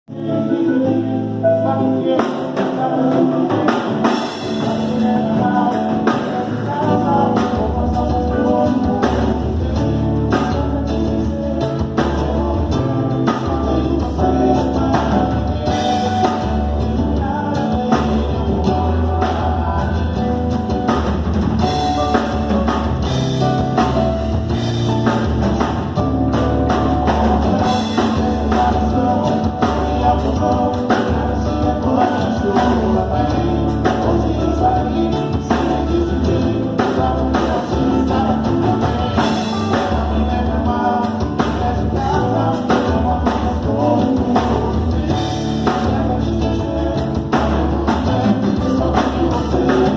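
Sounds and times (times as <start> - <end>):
guitar: 0.0 - 49.9
person singing: 0.0 - 49.9
drum kit: 0.1 - 49.9.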